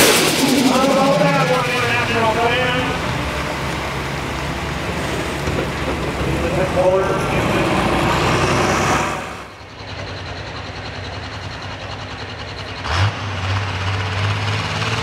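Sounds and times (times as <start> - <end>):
engine low drone: 0.0 - 15.0
tractor engine running hard: 0.0 - 15.0.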